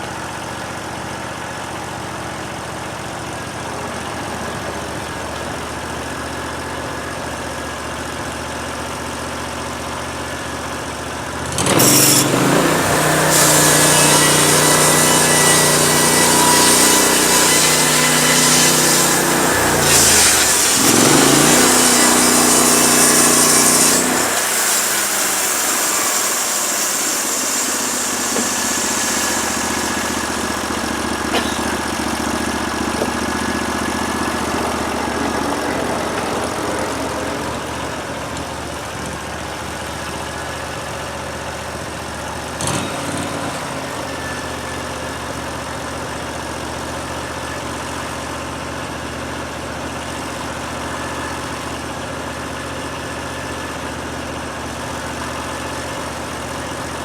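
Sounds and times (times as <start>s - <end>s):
sawmill petrol engine running: 0.0s - 57.0s.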